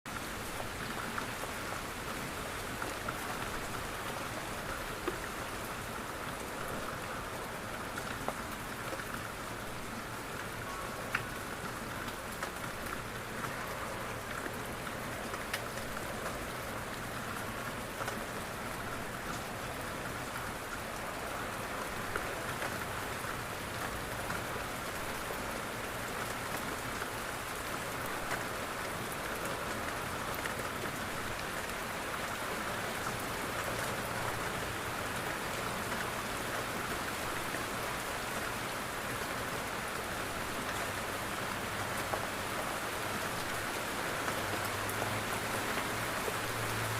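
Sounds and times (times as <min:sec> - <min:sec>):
rain pattering on a window: 0:00.1 - 0:46.9.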